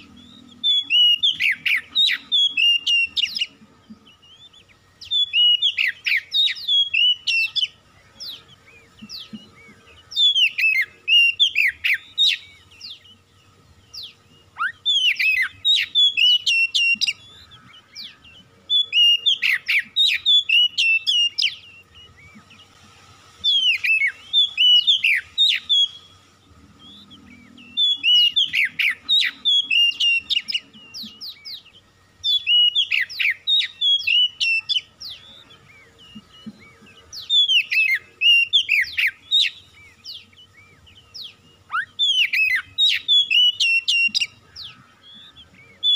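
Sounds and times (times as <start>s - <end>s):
bird singing sliding whistles: 0.0s - 13.2s, 13.8s - 22.8s, 23.4s - 45.9s.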